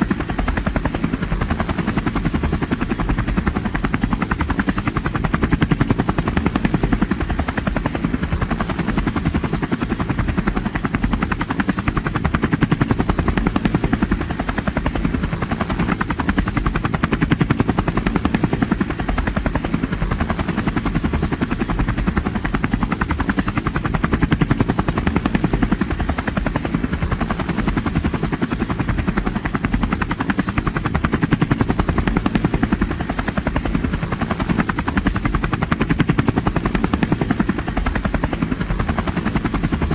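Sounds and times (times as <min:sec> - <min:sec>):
helicopter rotor and turbine rumble: 0:00.0 - 0:39.9.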